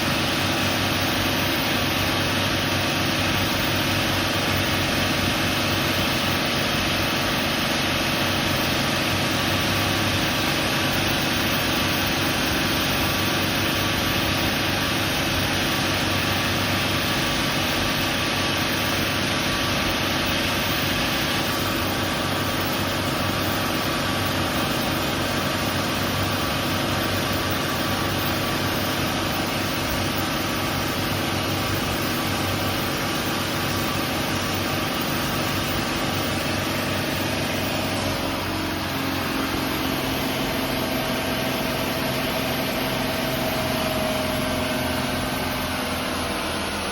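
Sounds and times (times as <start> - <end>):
boat engines running: 0.0 - 46.9.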